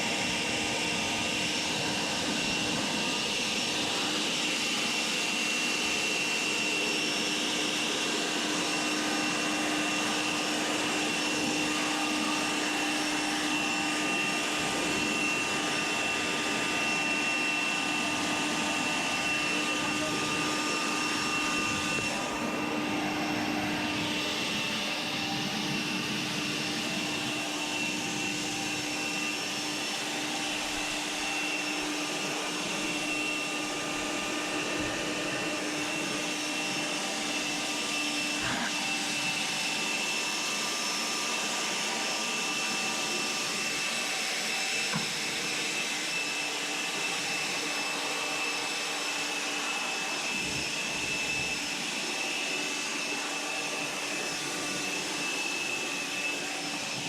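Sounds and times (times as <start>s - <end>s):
blower motor whine: 0.0s - 57.0s
electric air blower rushing hiss: 0.0s - 57.0s.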